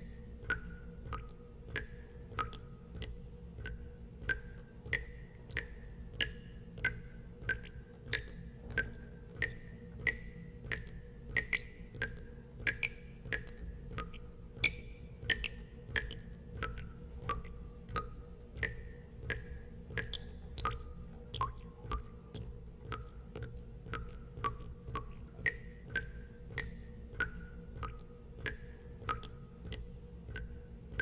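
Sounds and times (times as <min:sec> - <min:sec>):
water drops plinking into water: 0:00.0 - 0:31.0.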